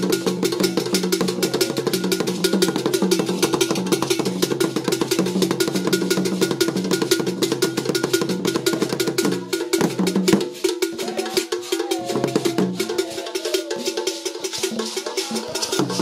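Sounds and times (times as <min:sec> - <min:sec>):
hand drums and rapid percussion: 0:00.0 - 0:16.0.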